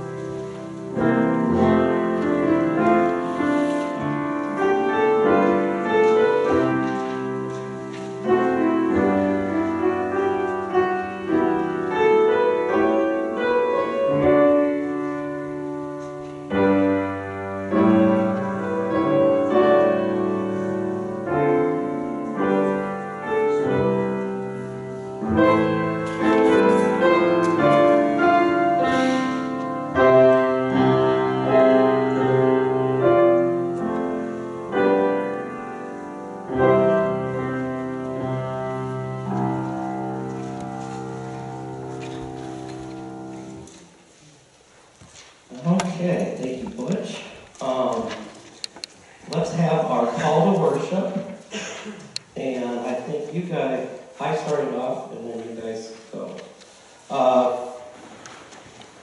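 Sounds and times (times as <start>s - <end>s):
slow piano prelude: 0.0s - 59.0s.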